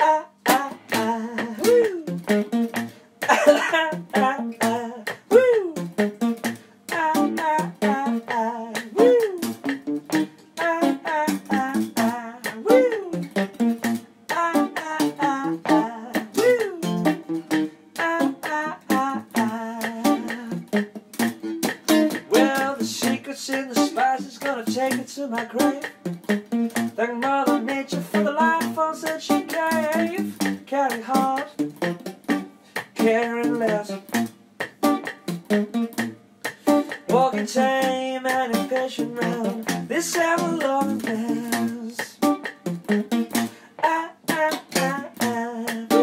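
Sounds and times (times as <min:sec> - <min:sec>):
plucked guitar run: 0:00.0 - 0:46.0.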